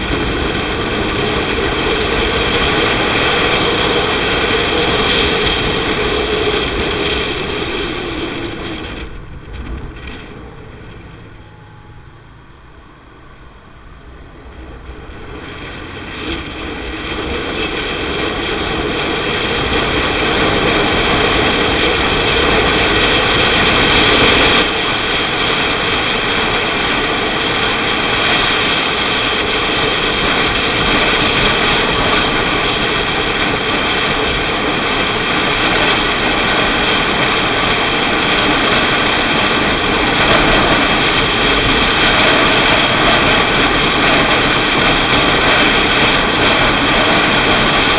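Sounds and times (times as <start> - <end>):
motorcycle engine: 0.0 - 47.9
wind rushing at microphone: 0.0 - 47.9.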